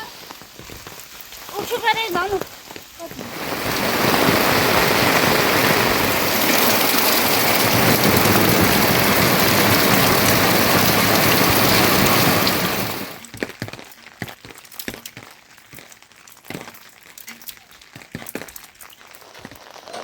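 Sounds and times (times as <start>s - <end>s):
rain pouring: 0.0s - 20.0s.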